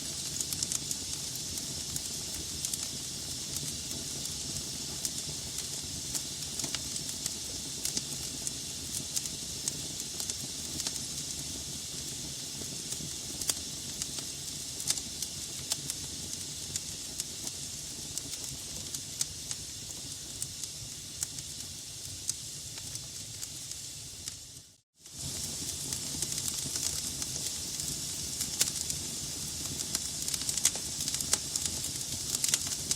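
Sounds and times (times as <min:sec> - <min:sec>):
fire crackling and popping: 0:00.0 - 0:32.9
log fire hissing: 0:00.0 - 0:32.9.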